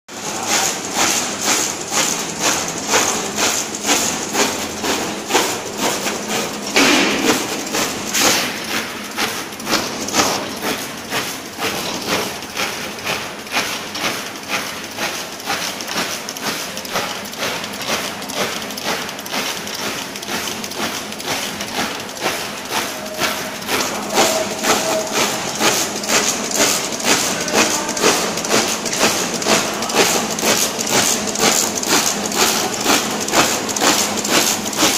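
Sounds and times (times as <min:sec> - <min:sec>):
machine clacking: 0:00.1 - 0:34.9.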